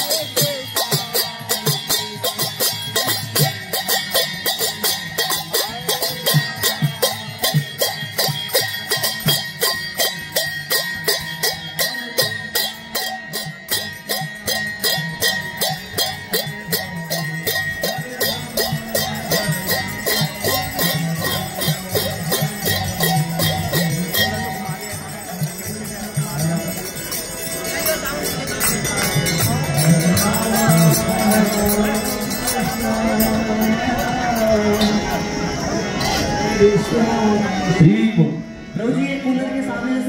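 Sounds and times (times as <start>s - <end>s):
hand cymbals clashing: 0.0s - 37.8s
accompanying instruments: 0.0s - 40.0s
chanting: 0.0s - 40.0s.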